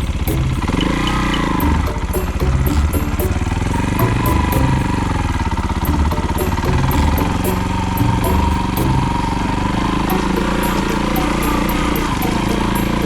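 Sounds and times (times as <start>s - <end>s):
engine running with low pulsing: 0.0s - 13.0s.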